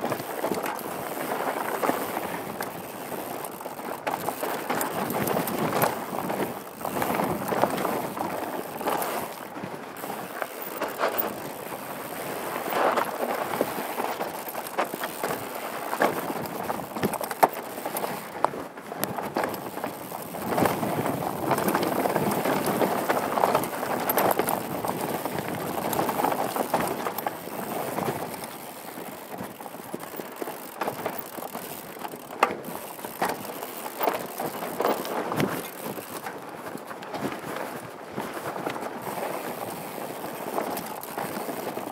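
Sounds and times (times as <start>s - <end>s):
bike knocking and rattling on rocks: 0.0s - 41.9s
tyres rushing on dirt and gravel: 0.0s - 41.9s.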